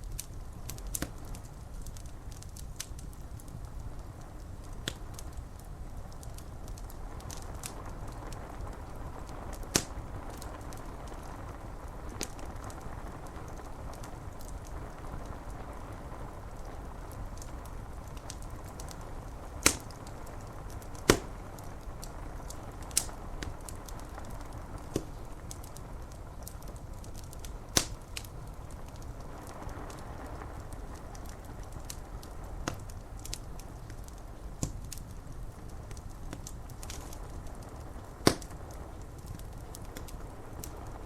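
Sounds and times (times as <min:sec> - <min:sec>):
wood fire crackling: 0:00.0 - 0:41.0
fire popping sharply: 0:00.1 - 0:15.2, 0:17.4 - 0:41.0
rain on window glass: 0:00.3 - 0:41.0.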